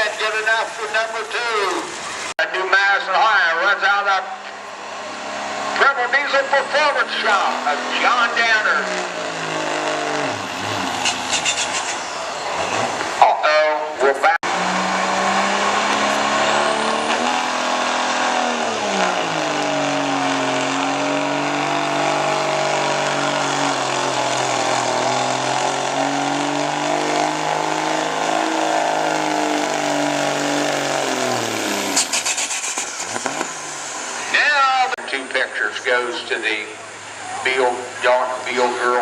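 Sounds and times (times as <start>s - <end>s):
diesel truck engine under load: 0.0s - 39.0s
high turbo whine: 3.1s - 39.0s.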